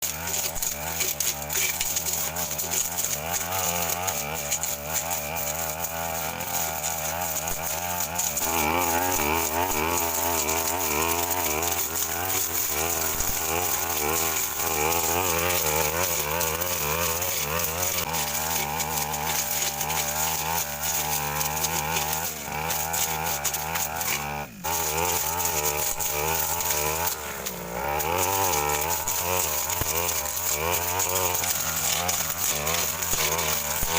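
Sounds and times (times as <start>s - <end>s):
brush cutter engine at high revs: 0.0s - 33.9s.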